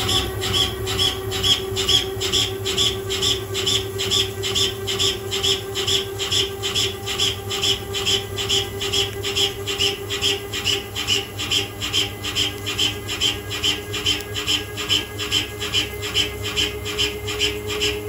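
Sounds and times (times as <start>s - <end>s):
lathe cutting steel: 0.0s - 18.0s
steady machine hum: 0.0s - 18.0s.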